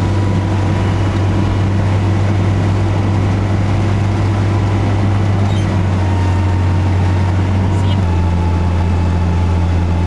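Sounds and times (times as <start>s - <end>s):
engine drone: 0.0s - 10.0s.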